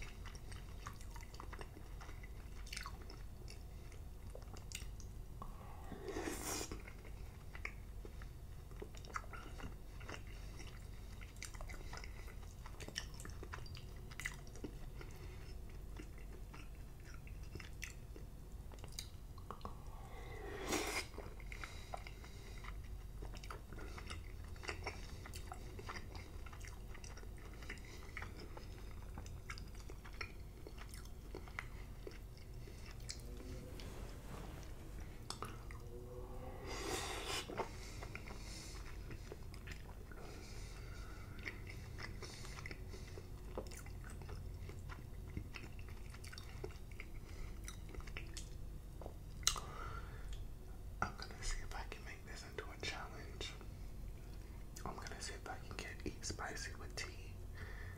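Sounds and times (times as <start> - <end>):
wet chewing: 0.0 - 5.2, 6.6 - 36.6, 37.2 - 49.7.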